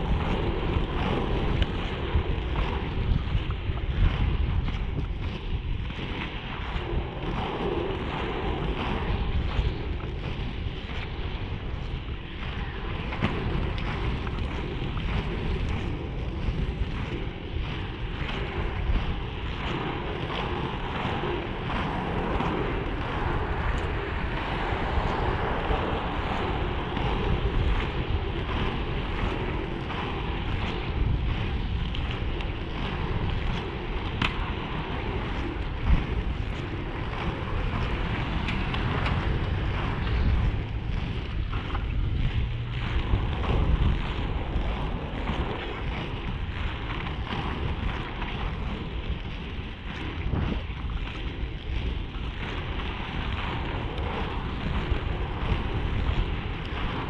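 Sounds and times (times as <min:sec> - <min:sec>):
inline skate wheels on asphalt: 0:00.0 - 0:57.0
wind noise on microphone: 0:00.0 - 0:57.0.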